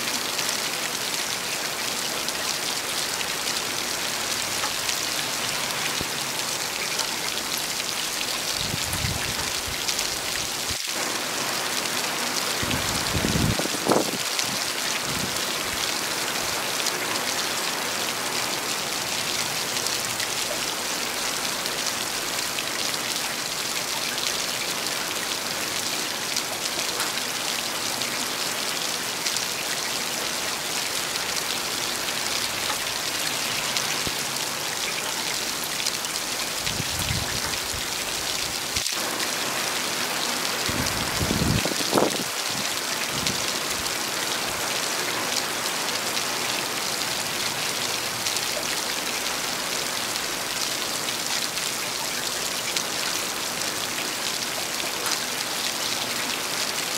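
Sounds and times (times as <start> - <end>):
heavy rain on hard surfaces: 0.0 - 56.9.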